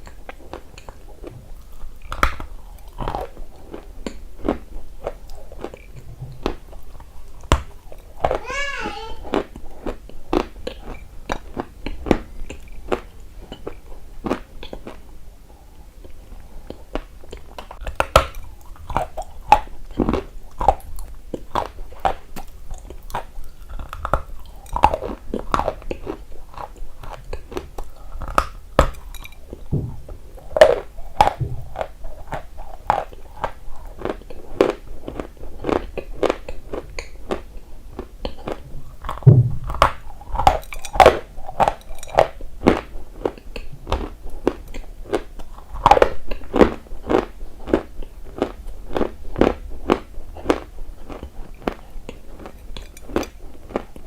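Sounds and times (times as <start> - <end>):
chewing and crunching brittle substance: 0.0 - 8.5, 9.2 - 54.0.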